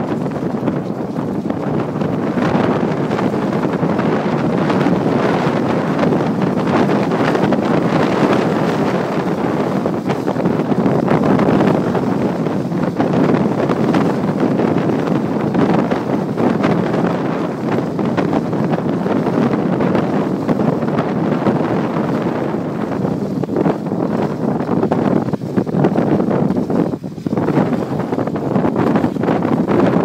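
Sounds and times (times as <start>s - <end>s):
water rushing in boat wake: 0.0s - 30.0s
wind buffeting microphone: 0.0s - 30.0s.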